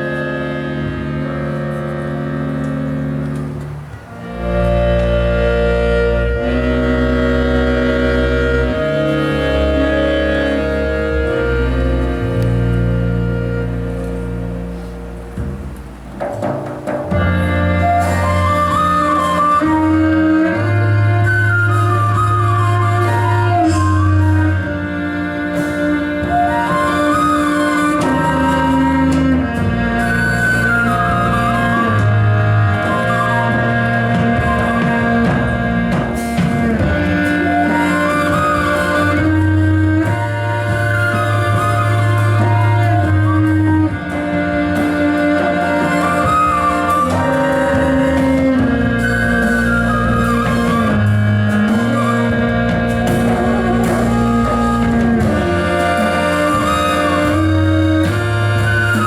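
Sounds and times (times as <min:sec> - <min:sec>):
kaval melody: 0:00.0 - 0:59.0
live folk band music: 0:00.0 - 0:59.0
sustained double bass notes: 0:00.0 - 0:59.0.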